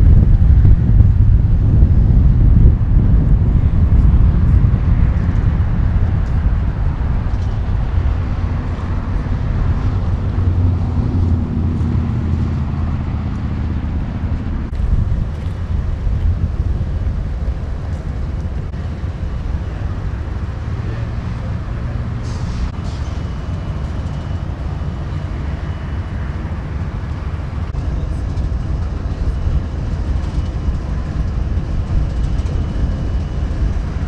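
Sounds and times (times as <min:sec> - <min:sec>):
vehicle engine idling: 0:00.0 - 0:34.0
wind noise on microphone: 0:00.0 - 0:34.0.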